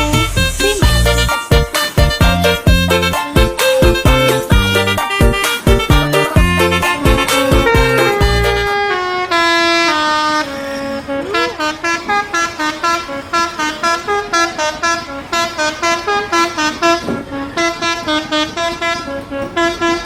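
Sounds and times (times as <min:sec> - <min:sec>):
bus musical horn tooting: 0:00.0 - 0:20.0.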